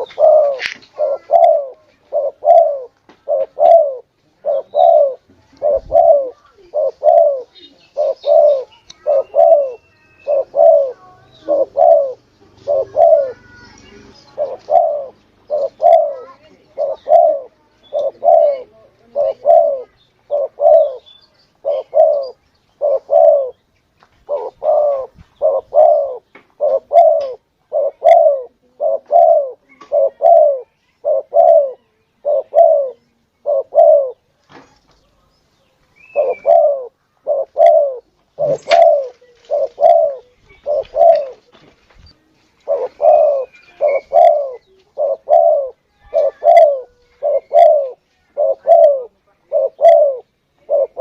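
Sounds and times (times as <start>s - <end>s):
dove cooing: 0.0s - 23.6s, 24.2s - 34.3s, 36.0s - 41.5s, 42.6s - 51.0s.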